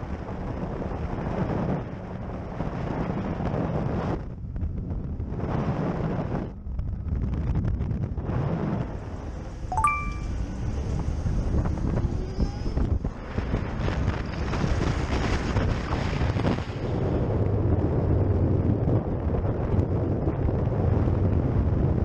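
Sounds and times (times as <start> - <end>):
wind buffeting microphone: 0.0 - 9.6, 10.8 - 22.0.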